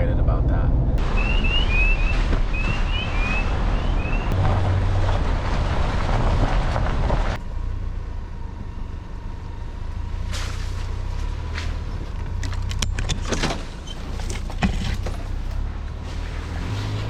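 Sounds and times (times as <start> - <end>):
low hum: 0.0 - 17.0
truck road and wind noise: 0.0 - 17.0.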